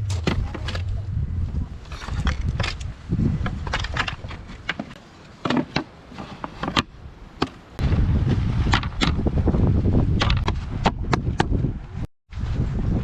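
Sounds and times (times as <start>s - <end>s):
wind buffeting microphone: 0.0s - 4.8s, 6.8s - 13.0s.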